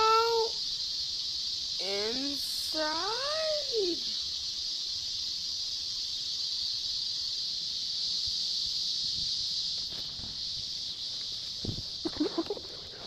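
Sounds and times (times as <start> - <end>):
night insects droning: 0.0 - 13.0.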